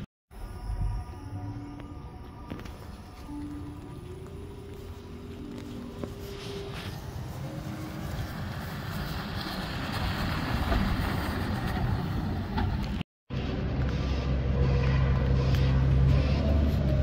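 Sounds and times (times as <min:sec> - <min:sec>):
bus engine and road noise: 0:02.1 - 0:17.0.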